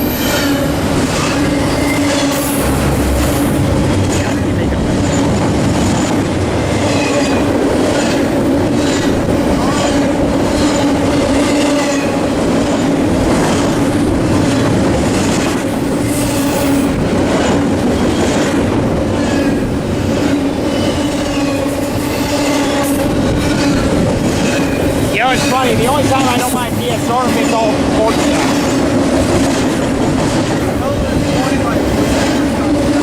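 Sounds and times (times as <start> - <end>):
freight train rumbling past: 0.0 - 33.0
wheels clacking over rail joints: 0.0 - 33.0.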